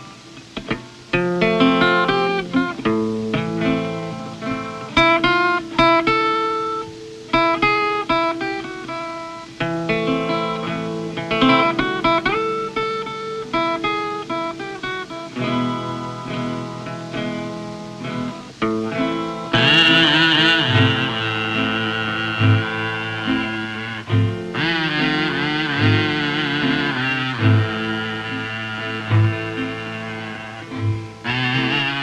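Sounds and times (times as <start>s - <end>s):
plucked string instrument music: 0.0s - 32.0s.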